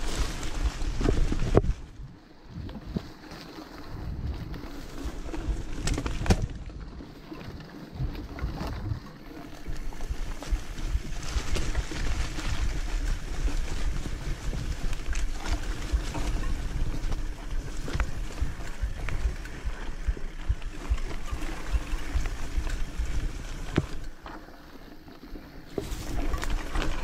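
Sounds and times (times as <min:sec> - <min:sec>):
wind buffeting microphone: 0:00.0 - 0:03.2, 0:03.8 - 0:24.2
dirt motorcycle engine: 0:00.0 - 0:27.0.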